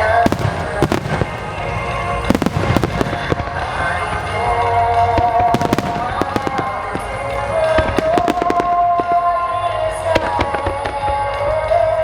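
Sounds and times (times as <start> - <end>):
fireworks bangs and crackle: 0.0 - 12.0
music with held melodic notes: 0.0 - 12.0.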